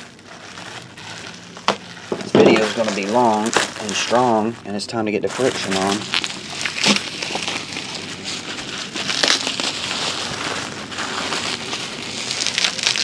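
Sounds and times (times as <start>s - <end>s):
bubble wrap crackles: 0.0s - 13.0s
bubble wrap rustling and crinkling: 0.0s - 13.0s.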